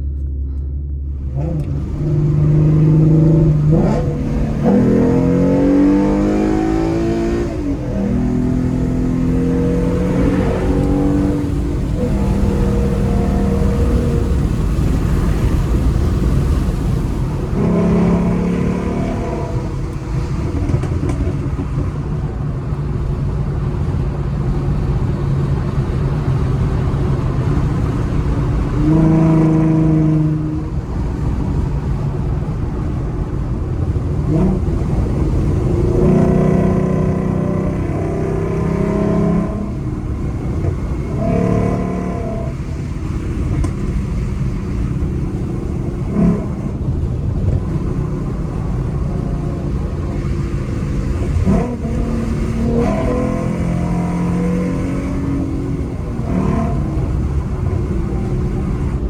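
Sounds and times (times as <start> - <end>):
car engine rumbling while driving: 0.0 - 59.0.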